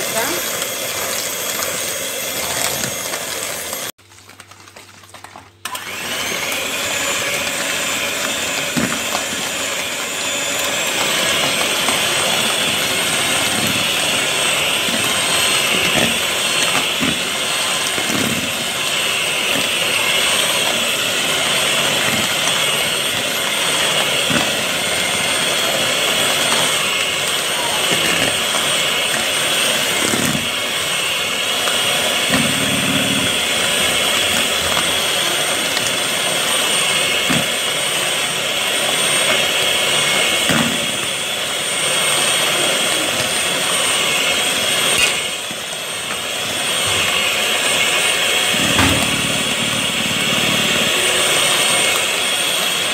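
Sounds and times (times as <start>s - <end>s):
electric hand mixer running: 0.0s - 4.0s, 5.6s - 52.9s.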